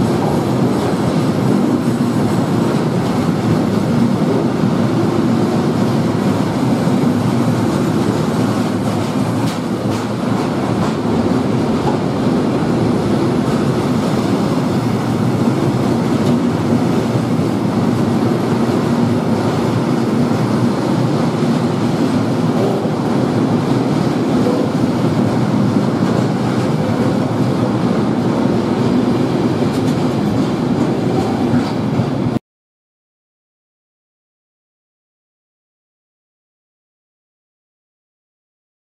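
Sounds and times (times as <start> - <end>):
steel wheels on rails: 0.0 - 32.4.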